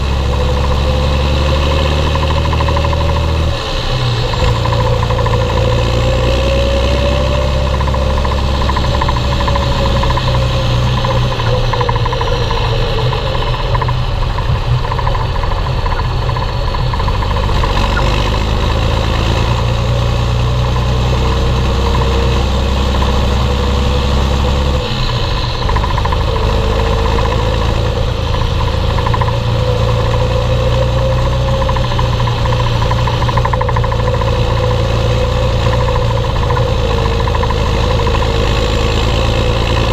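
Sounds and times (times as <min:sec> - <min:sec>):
tractor diesel engine running: 0:00.0 - 0:39.9
wavering whine: 0:00.0 - 0:39.9.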